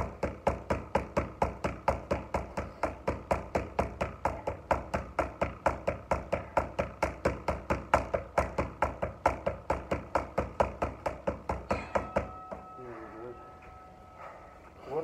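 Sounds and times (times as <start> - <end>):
boxing gloves striking focus mitts: 0.0 - 12.8.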